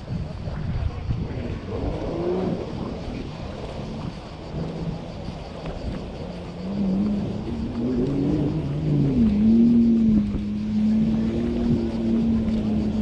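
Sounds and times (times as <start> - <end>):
low rumble: 0.0 - 13.0
jet ski engine revving: 1.0 - 13.0.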